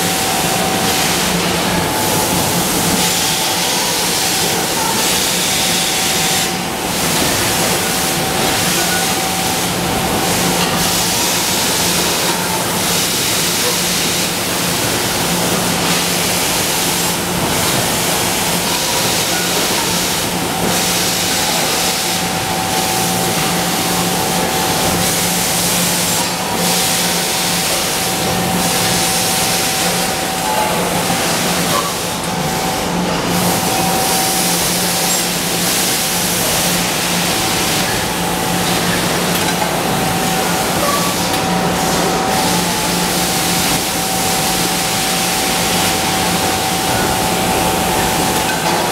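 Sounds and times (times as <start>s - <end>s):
factory machinery running: 0.0s - 48.9s.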